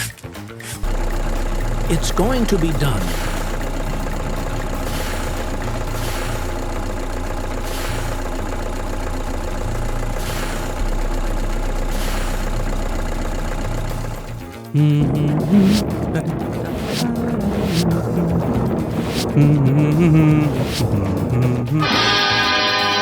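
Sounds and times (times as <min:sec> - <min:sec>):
engine idling: 0:00.8 - 0:23.0.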